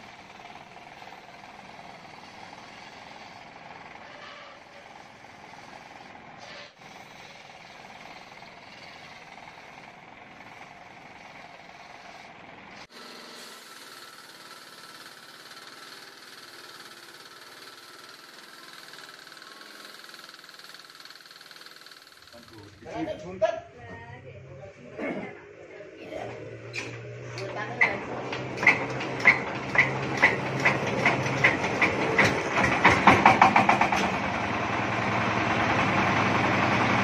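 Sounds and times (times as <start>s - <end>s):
sawmill blade cutting log: 0.0s - 22.7s, 26.5s - 37.0s.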